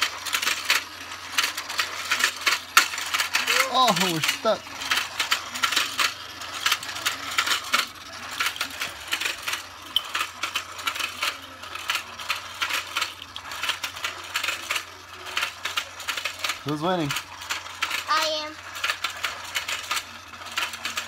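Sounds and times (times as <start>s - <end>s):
toy mechanism clicking: 0.0s - 21.0s.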